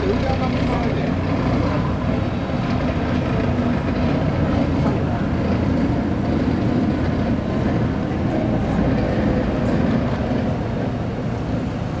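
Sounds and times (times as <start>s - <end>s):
truck diesel engines rumbling: 0.0s - 12.0s.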